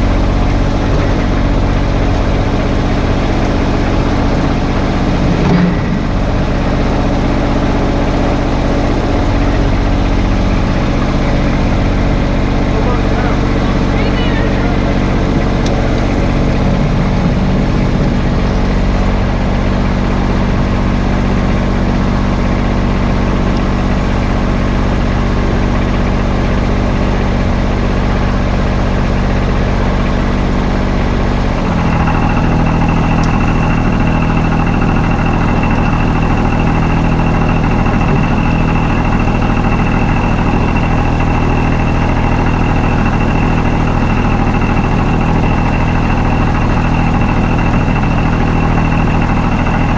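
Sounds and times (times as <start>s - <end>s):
engine running: 0.0s - 49.9s.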